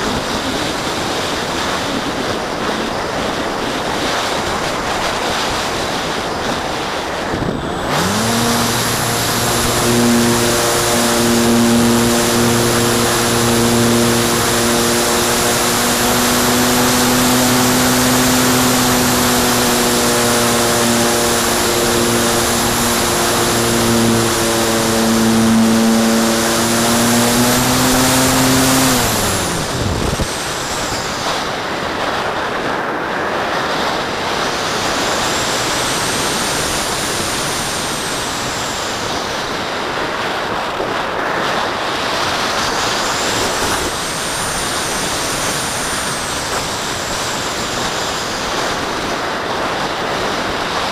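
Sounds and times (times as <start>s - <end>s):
electric motor and propeller humming: 0.0s - 50.9s
wind rushing past: 0.0s - 50.9s.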